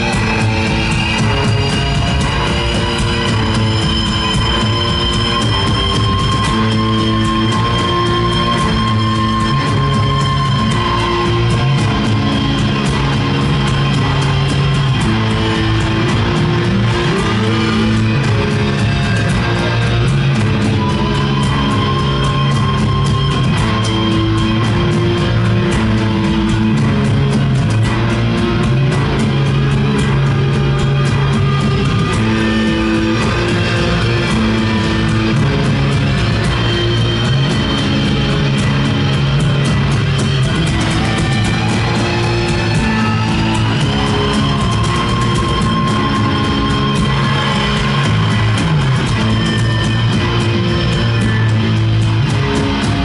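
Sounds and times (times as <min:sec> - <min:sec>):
distorted electric guitars: 0:00.0 - 0:53.0
drums and cymbals: 0:00.0 - 0:53.0.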